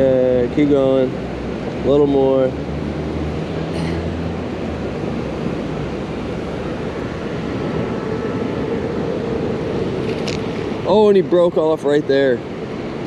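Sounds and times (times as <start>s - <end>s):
water roaring over a dam: 0.0s - 13.0s.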